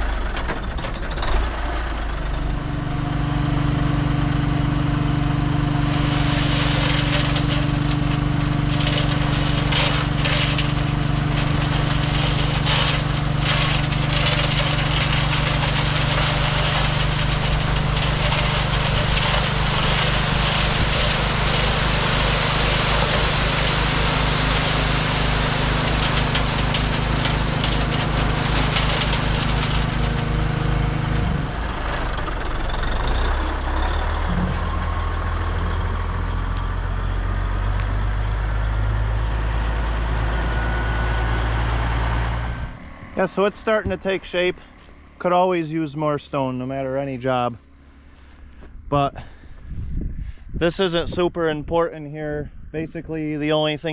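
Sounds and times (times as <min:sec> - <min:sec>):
diesel engine running: 0:00.0 - 0:51.2.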